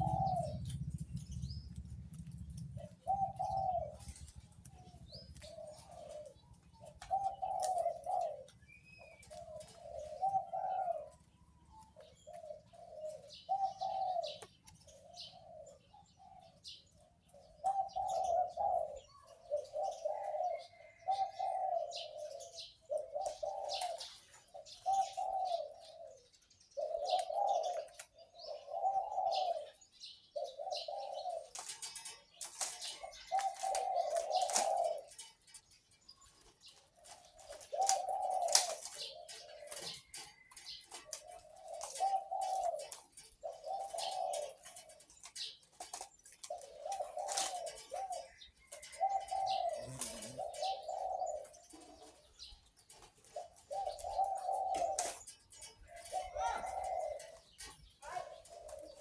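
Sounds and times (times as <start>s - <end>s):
dove cooing: 0.0s - 59.0s
small birds chirping: 0.0s - 59.0s.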